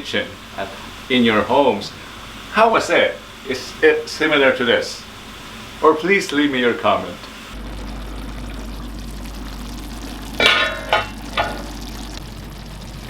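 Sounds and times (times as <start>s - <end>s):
sauce sizzling and bubbling: 0.0s - 13.0s.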